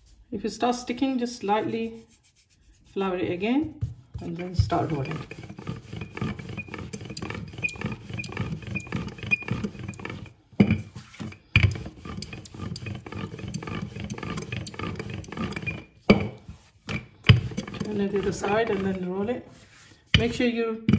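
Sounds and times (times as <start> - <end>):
rolling pin rolling over dough: 1.9 - 20.9.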